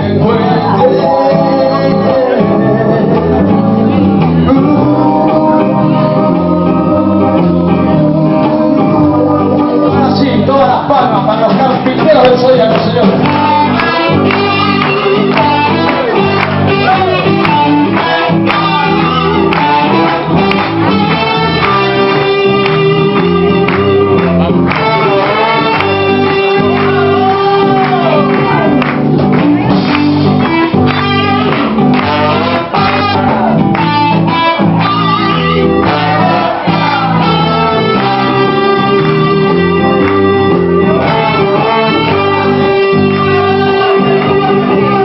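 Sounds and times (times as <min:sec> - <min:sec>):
guitar: 0:00.0 - 0:45.0
live band playing: 0:00.0 - 0:45.0
person singing: 0:00.0 - 0:45.0.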